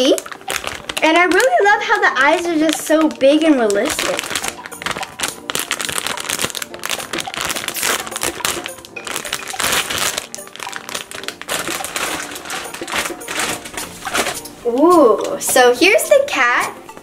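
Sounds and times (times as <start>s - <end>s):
plastic wrapping crinkling: 0.0s - 15.5s
background music: 0.0s - 17.0s.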